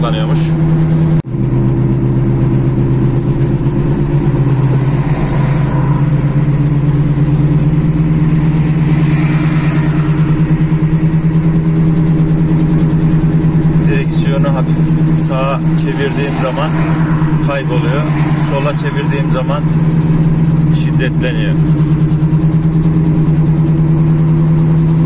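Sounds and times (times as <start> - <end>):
pulsing wheel hum: 0.0 - 25.0
vehicle engine running: 0.0 - 25.0.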